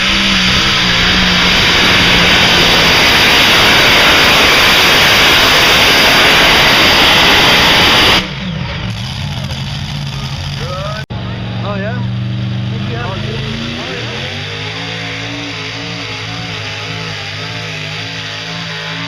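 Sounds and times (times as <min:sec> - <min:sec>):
tractor engines roaring: 0:00.0 - 0:19.0.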